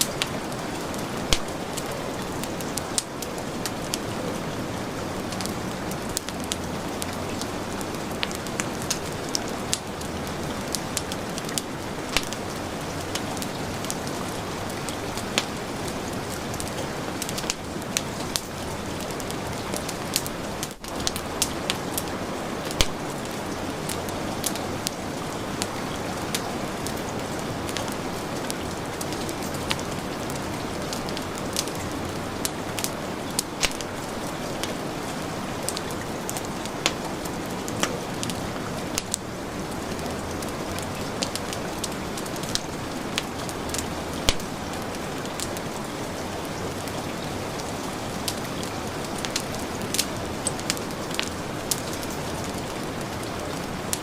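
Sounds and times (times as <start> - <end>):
heavy rain: 0.0 - 54.0
wood fire crackling: 0.0 - 54.0.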